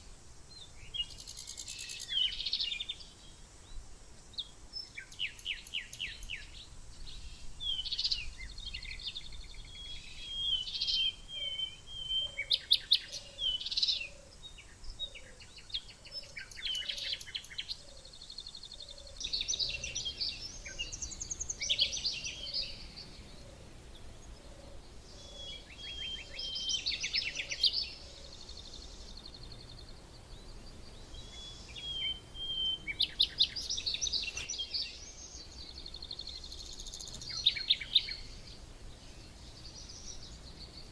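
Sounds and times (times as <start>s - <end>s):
songbirds chirping and singing: 0.6s - 40.9s.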